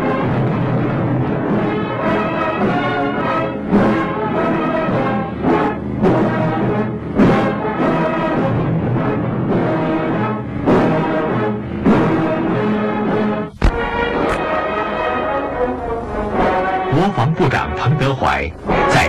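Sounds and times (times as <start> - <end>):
orchestral brass march: 0.0 - 19.0.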